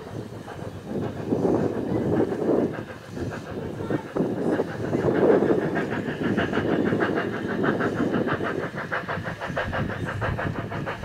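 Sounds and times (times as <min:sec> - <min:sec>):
hissing steam: 0:00.0 - 0:11.0
steam locomotive chuffing: 0:00.0 - 0:11.0.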